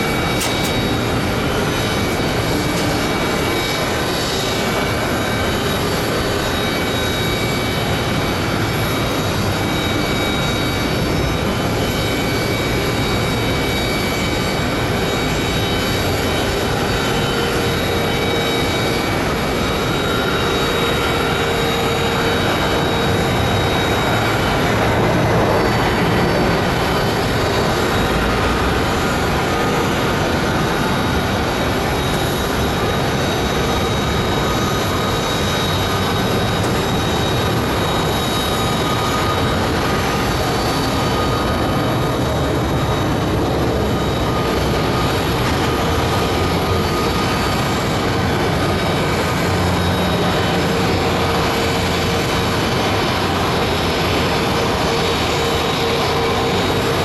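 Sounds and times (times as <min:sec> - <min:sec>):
jet engine idling with whine: 0:00.0 - 0:57.0.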